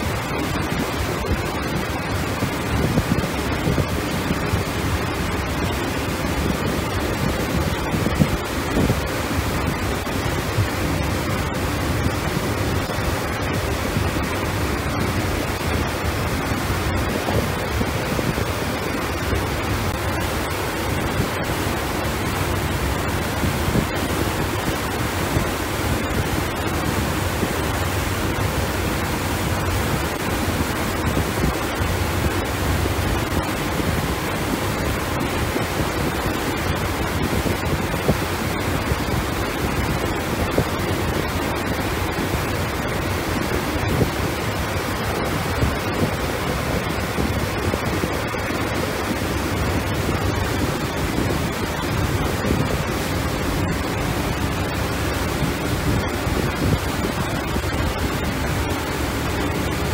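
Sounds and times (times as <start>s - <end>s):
water rushing past a boat: 0.0s - 59.9s
wind buffeting microphone: 0.0s - 59.9s.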